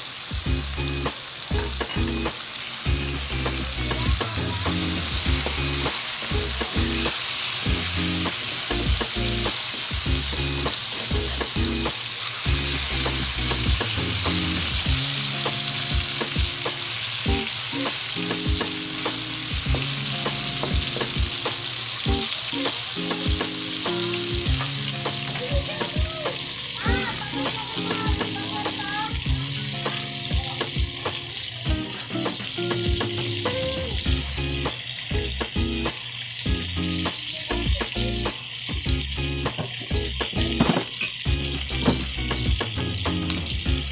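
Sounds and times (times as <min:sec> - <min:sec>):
food sizzling in a frying pan: 0:00.0 - 0:43.9.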